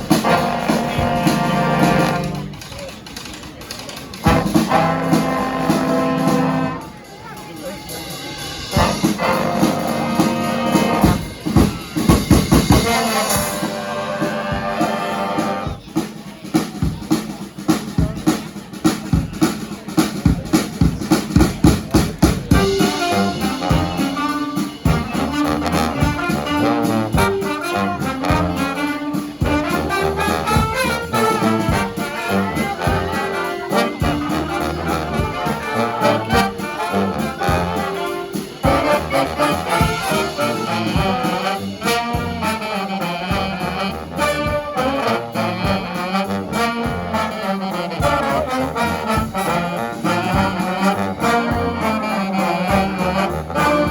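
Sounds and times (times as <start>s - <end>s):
brass band playing: 0.0s - 2.9s, 4.1s - 53.9s
drums: 0.0s - 53.9s.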